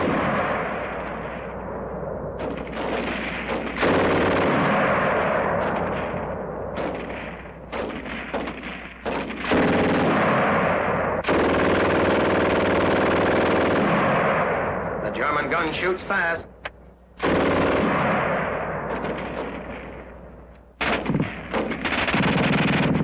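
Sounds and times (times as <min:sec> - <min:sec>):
machine-gun fire in bursts: 0:00.0 - 0:14.8, 0:17.2 - 0:20.2, 0:20.8 - 0:23.0.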